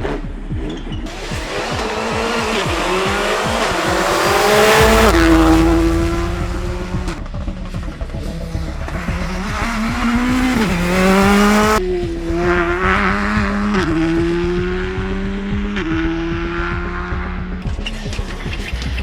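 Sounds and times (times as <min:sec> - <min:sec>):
rally car engine accelerating hard: 0:00.0 - 0:19.0.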